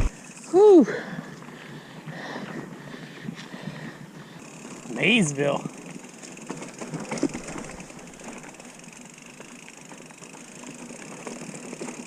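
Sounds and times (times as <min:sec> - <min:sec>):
bike clicks and rattles: 0:00.0 - 0:12.0
bike tyres on dirt trail: 0:00.0 - 0:12.0.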